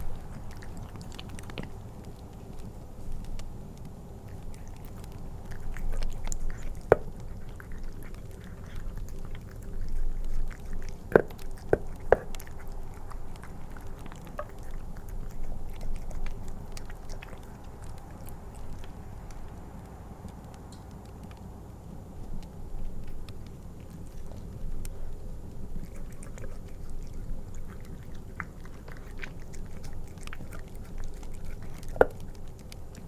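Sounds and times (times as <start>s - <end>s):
cat chewing wet food: 0.0s - 33.0s.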